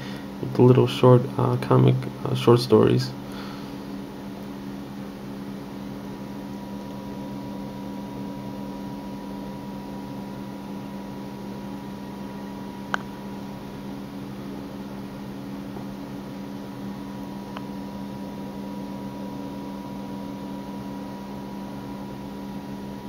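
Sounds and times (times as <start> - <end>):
electrical hum with hiss: 0.0 - 23.0.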